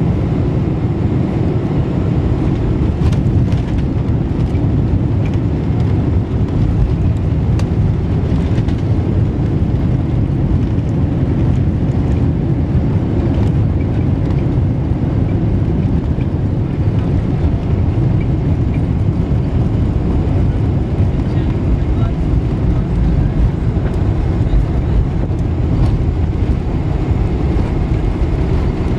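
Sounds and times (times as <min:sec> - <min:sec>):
airplane cabin low rumble: 0:00.0 - 0:28.9.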